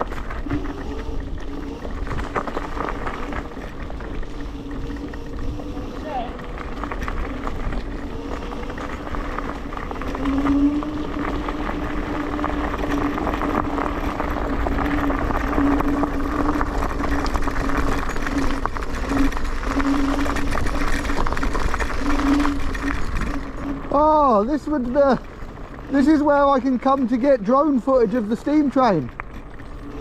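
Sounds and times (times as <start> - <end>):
rushing wind: 0.0 - 28.4
electric scooter motor whine: 0.0 - 30.0
tyre noise: 0.0 - 30.0.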